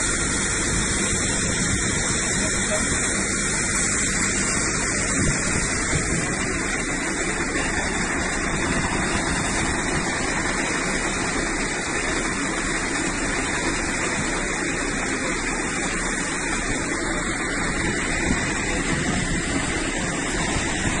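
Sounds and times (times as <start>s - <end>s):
fire hose spraying water: 0.0s - 21.0s.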